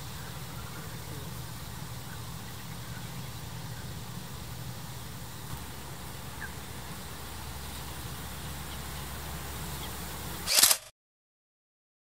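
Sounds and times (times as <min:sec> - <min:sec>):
low engine-like hum: 0:00.0 - 0:10.8.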